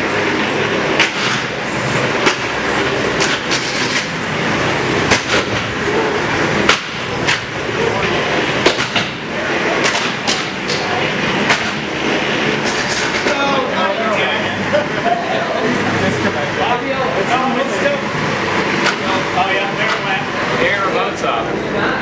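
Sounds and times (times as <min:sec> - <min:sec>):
steady noisy background: 0:00.0 - 0:22.0.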